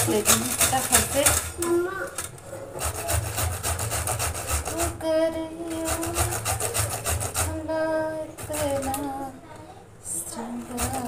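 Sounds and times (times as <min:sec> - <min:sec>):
gourd rasping on metal grater: 0:00.0 - 0:07.7, 0:08.3 - 0:09.2, 0:10.2 - 0:11.0.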